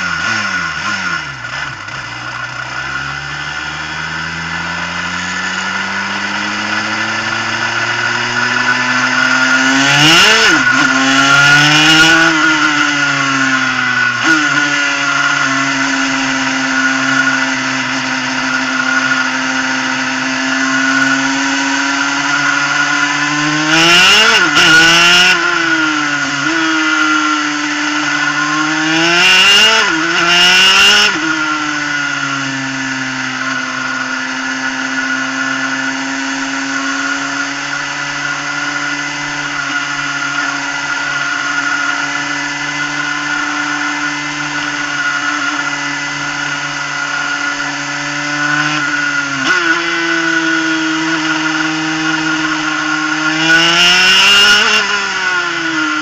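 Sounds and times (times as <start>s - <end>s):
kart two-stroke engine revving: 0.0s - 56.0s.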